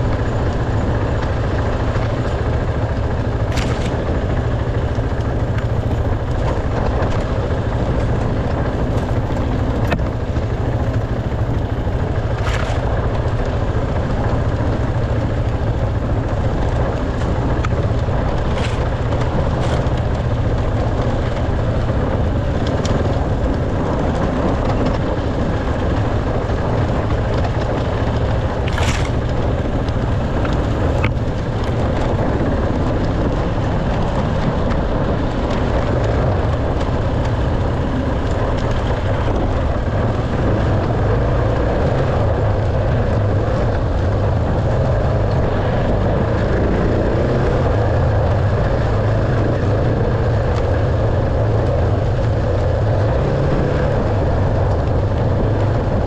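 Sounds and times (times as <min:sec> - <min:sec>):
dirt bike engine running: 0:00.0 - 0:56.0
rushing noise: 0:00.0 - 0:56.0.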